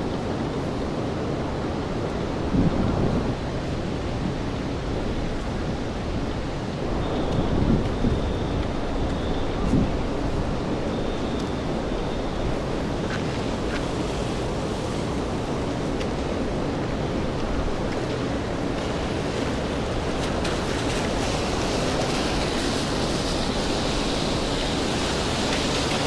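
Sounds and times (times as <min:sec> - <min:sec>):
rain on wet street: 0:00.0 - 0:26.0.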